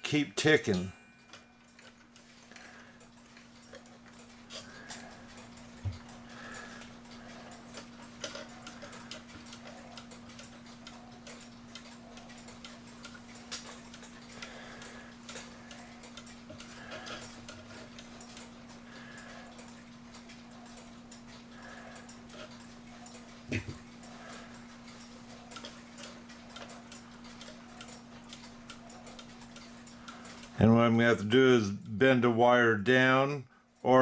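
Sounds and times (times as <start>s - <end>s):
clock ticking with uneven clicks: 0.0s - 34.0s
steady low hum: 0.0s - 34.0s.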